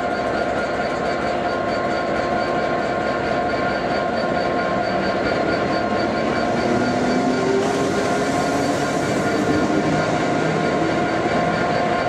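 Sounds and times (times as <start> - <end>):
diesel locomotive idling: 0.0 - 12.0
electric train running slowly: 0.0 - 12.0.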